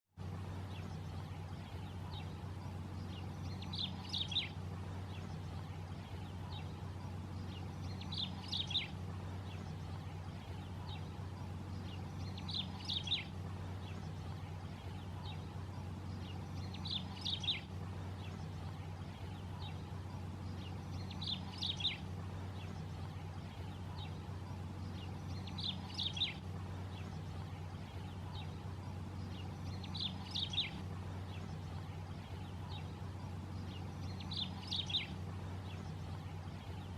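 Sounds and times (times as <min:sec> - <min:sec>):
low hum: 0:00.2 - 0:36.9.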